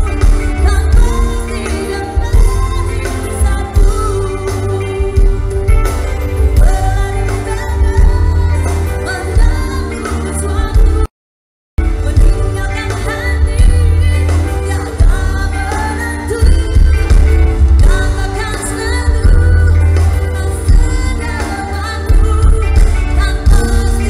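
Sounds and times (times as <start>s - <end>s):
live pop band with female singer: 0.0s - 11.1s, 11.8s - 24.0s.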